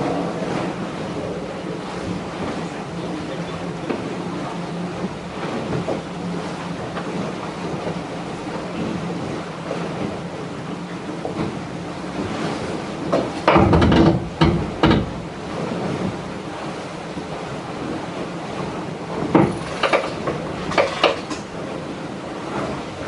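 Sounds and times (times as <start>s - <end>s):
water splashing against hull: 0.0s - 23.0s.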